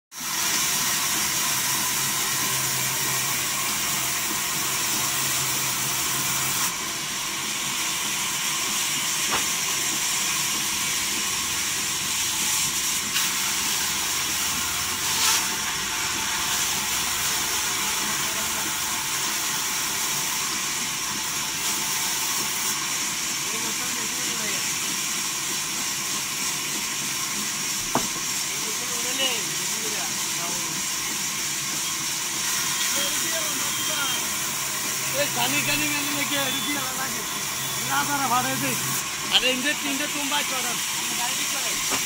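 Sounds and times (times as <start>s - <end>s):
band saw cutting timber: 0.2s - 42.0s.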